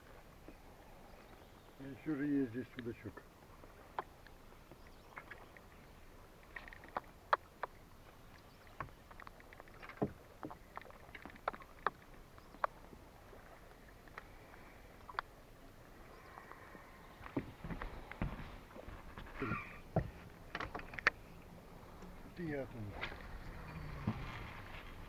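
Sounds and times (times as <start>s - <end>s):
waves lapping against boat hull: 0.0s - 25.0s.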